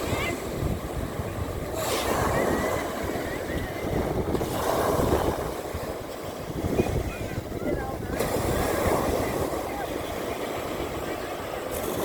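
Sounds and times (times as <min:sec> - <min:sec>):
waves washing onto a beach: 0:00.0 - 0:12.0
wind buffeting microphone: 0:00.0 - 0:12.0.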